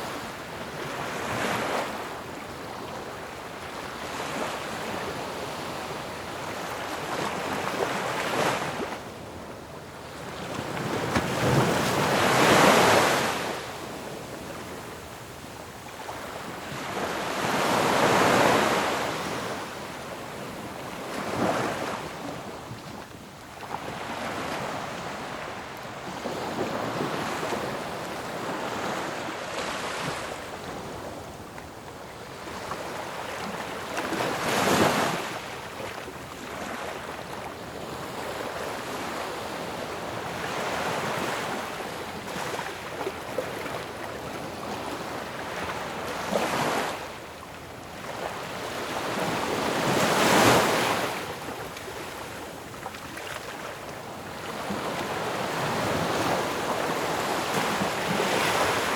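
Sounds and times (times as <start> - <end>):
ocean waves crashing on shore: 0.0 - 22.7, 23.6 - 58.9.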